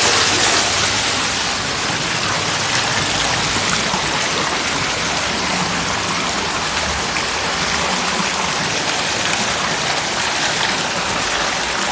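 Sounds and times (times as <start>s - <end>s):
heavy rain: 0.0s - 11.9s.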